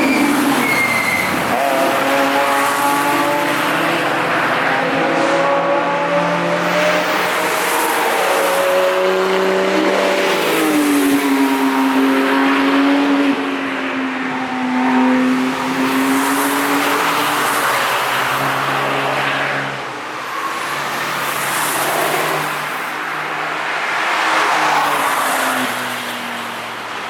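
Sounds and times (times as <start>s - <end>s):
race cars driving past: 0.0s - 26.8s.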